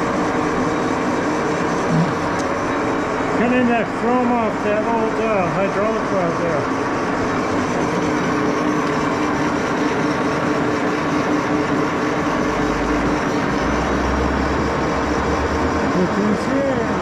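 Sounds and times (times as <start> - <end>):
lathe gear whine: 0.0 - 17.0.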